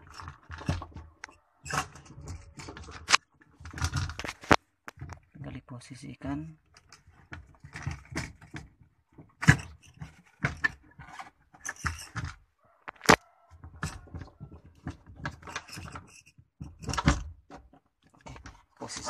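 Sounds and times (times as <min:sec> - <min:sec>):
plastic clicks knocks and scraping: 0:00.0 - 0:05.4, 0:06.6 - 0:19.0.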